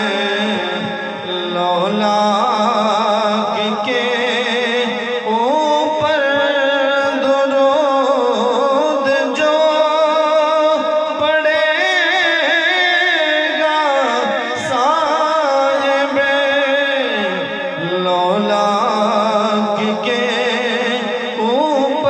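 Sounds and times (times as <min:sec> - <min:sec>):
man singing into a microphone: 0:00.0 - 0:22.0
steady held drone: 0:00.0 - 0:22.0.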